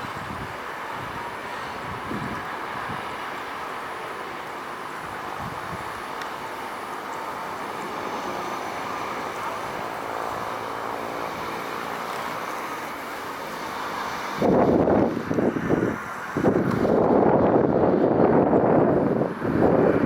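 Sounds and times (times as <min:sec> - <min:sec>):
distant jet airliner engine: 0:00.0 - 0:20.0.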